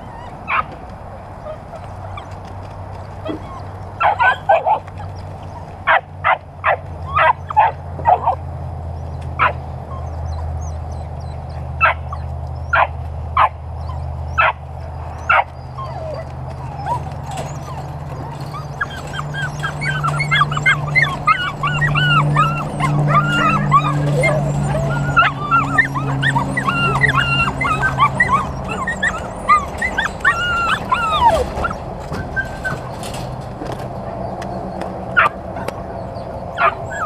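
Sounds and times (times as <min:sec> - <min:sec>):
puppies whimpering: 0:00.0 - 0:06.0, 0:06.7 - 0:08.4, 0:09.4 - 0:12.9, 0:13.8 - 0:37.0
puppies yipping: 0:00.0 - 0:08.4, 0:09.4 - 0:37.0.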